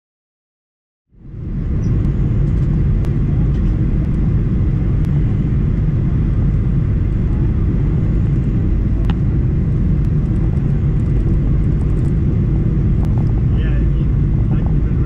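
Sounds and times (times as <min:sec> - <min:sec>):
airliner cabin rumble: 0:01.1 - 0:15.0.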